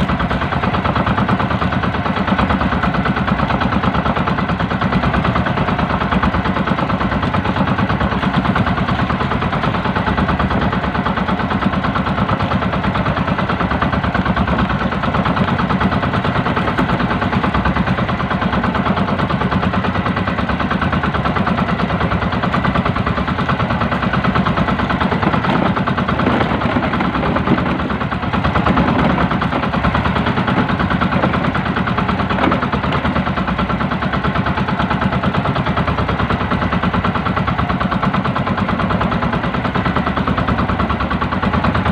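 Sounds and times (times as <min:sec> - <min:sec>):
small boat engine running: 0:00.0 - 0:41.9.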